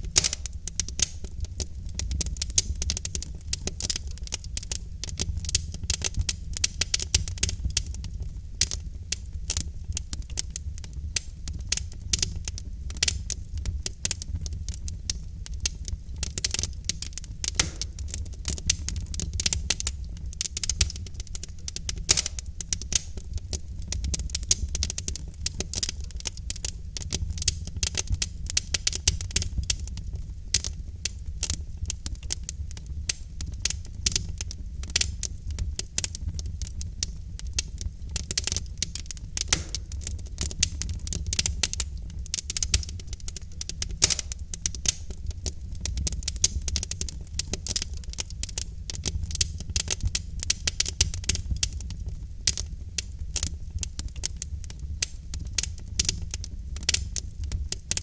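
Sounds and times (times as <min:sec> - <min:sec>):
fire pops: 0:00.0 - 0:58.0
logs crackling in fireplace: 0:00.0 - 0:58.0
low steady rumble: 0:00.0 - 0:58.0.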